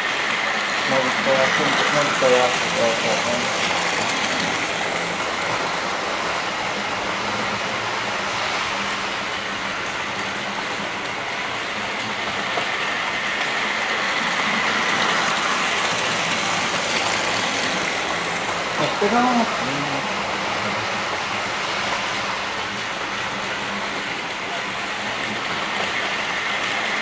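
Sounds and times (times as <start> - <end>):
model train whirring on track: 0.0 - 27.0.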